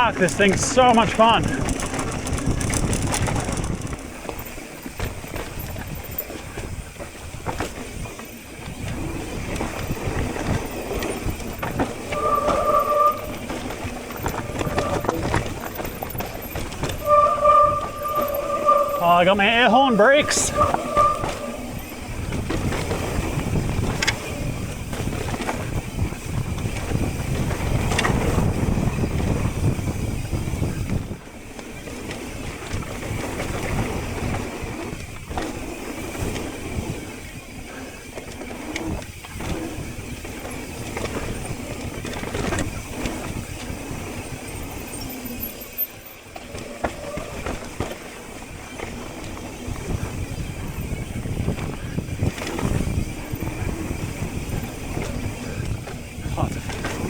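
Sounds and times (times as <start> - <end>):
wind rushing over microphone: 0.0 - 4.3, 5.2 - 37.8, 46.4 - 57.0
bike clicks and rattles: 0.0 - 57.0
bike tyres rolling on dirt: 0.0 - 57.0.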